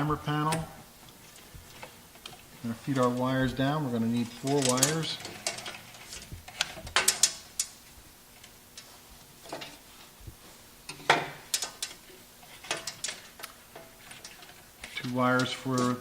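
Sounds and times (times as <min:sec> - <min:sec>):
wires clicking and scraping: 0:00.0 - 0:16.0.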